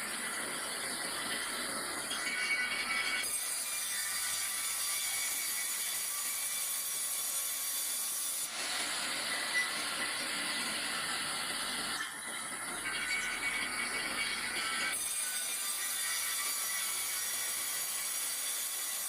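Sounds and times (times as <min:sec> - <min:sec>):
saw cutting through log: 0:00.0 - 0:19.0.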